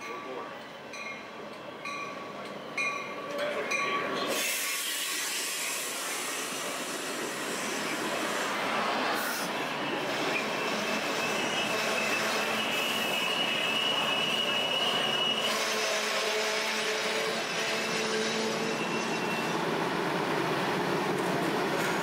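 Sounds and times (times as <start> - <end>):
train wheel squeal: 1.0 - 19.7.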